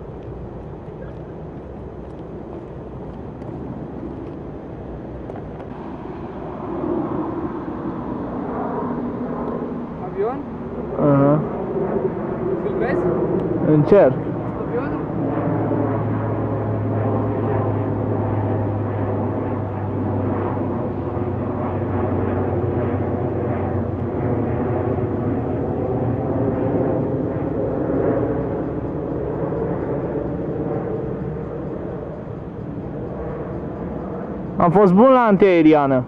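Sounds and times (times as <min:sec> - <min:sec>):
turboprop airliner droning overhead: 0:00.0 - 0:36.0.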